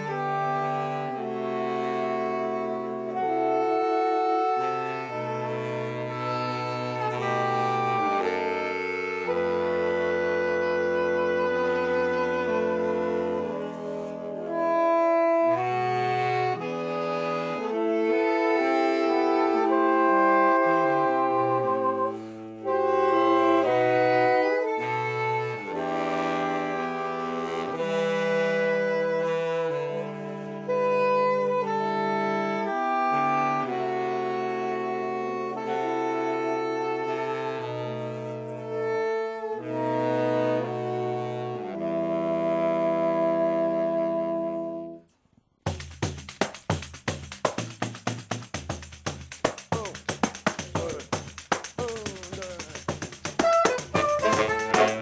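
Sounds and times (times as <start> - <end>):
saxophone quartet playing chords: 0.0 - 55.0.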